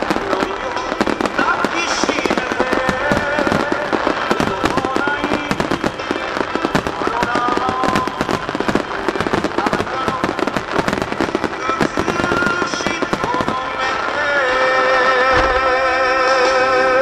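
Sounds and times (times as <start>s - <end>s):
fireworks bangs and crackling: 0.0s - 17.0s
sung melody: 0.0s - 17.0s.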